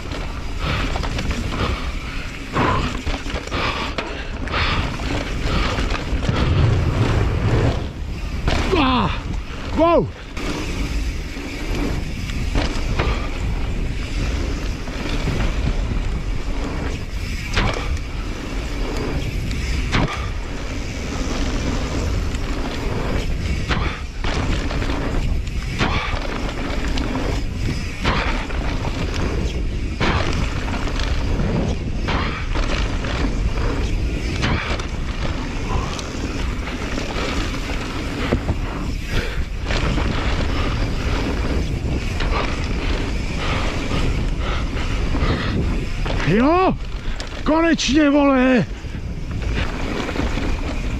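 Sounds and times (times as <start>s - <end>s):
bike rattling over bumps: 0.0s - 50.9s
tyre noise on dirt: 0.0s - 50.9s
wind rush on microphone: 0.0s - 50.9s.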